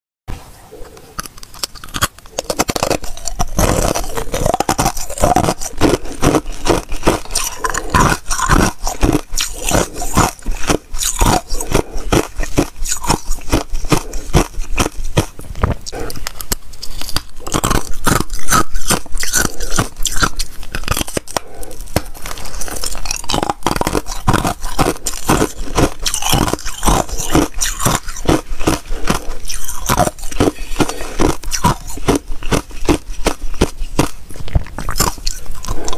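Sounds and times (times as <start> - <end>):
ice being chewed: 0.7 - 35.9.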